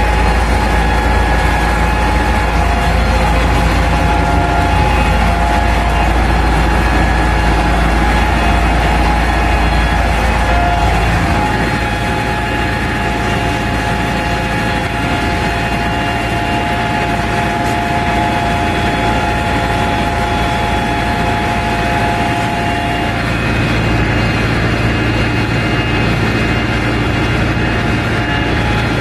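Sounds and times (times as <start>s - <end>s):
steady high whine: 0.0s - 29.0s
tractor diesel engine running: 0.0s - 29.0s.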